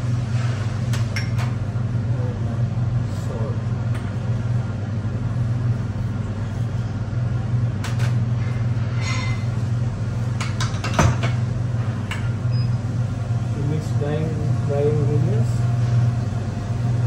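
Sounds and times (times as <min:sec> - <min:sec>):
kitchen machinery humming: 0:00.0 - 0:17.0.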